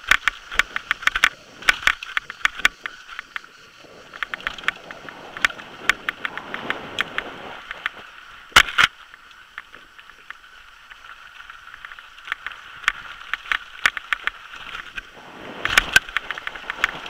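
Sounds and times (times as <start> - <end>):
bike rattling over rocks: 0.0 - 17.0
wind and tyre noise: 0.0 - 17.0.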